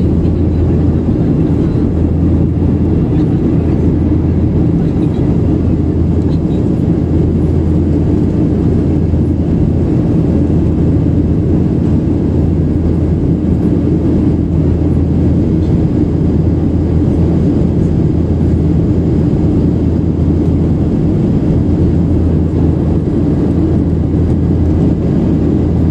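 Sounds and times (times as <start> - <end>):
airplane cabin engine drone: 0.0 - 25.9.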